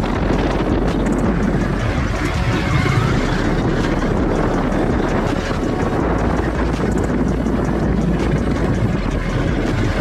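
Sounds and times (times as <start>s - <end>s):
motorcycle engine running: 0.0s - 10.0s
wind buffeting microphone: 0.0s - 10.0s.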